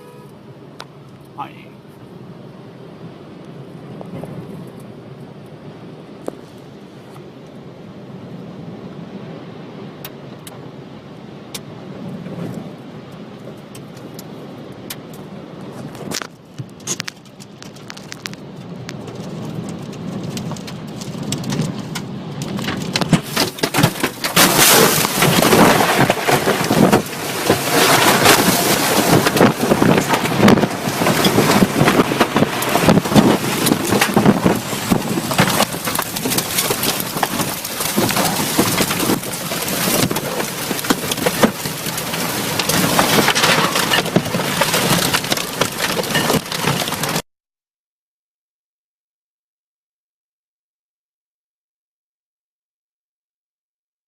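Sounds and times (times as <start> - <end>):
rushing storm wind: 0.0 - 47.2
rain: 0.3 - 47.2.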